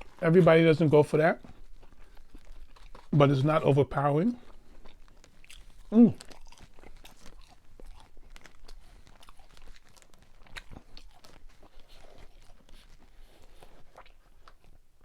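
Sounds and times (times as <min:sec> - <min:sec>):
chewing fries: 0:00.0 - 0:15.0.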